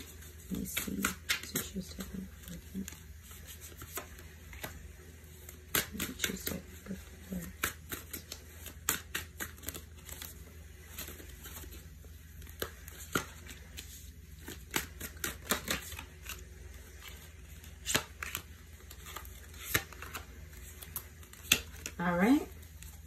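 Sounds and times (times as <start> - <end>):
cards being dealt: 0.0 - 22.0.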